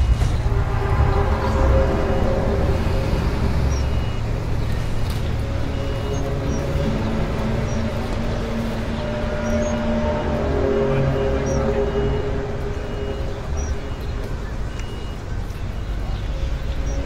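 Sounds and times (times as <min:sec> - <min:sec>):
long steady tones: 0:00.0 - 0:17.0
low rumbling drone: 0:00.0 - 0:17.0.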